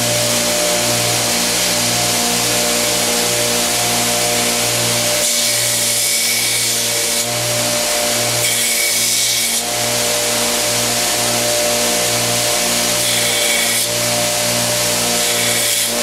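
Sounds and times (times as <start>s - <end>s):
belt grinder humming: 0.0s - 16.0s.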